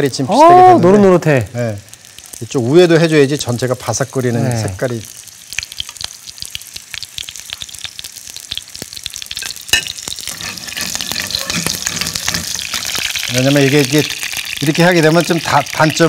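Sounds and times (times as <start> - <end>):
dumplings sizzling in oil: 0.0 - 16.0.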